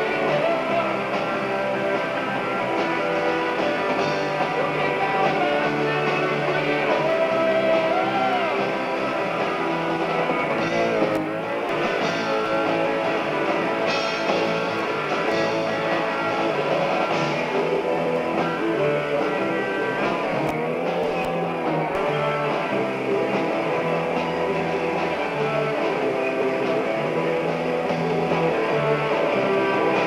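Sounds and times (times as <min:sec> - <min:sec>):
electric guitar: 0:00.0 - 0:30.0
live rock band instrumental: 0:00.0 - 0:30.0.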